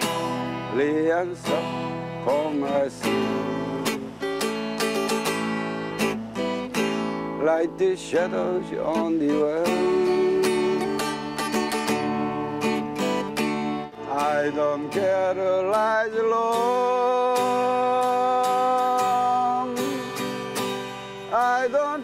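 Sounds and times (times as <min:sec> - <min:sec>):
person singing: 0:00.0 - 0:13.2, 0:13.8 - 0:22.0
acoustic guitar strumming: 0:00.0 - 0:22.0.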